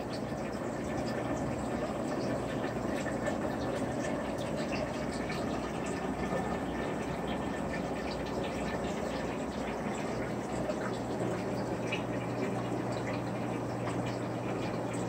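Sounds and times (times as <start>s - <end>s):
aquarium water bubbling: 0.0s - 15.0s
low steady hum: 0.0s - 15.0s.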